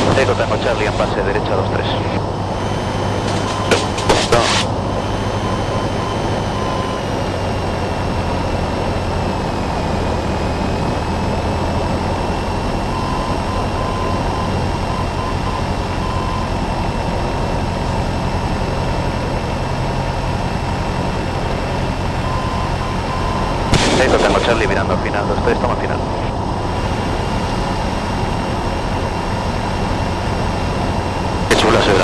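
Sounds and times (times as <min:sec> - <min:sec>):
airplane engine and propeller drone: 0:00.0 - 0:32.0.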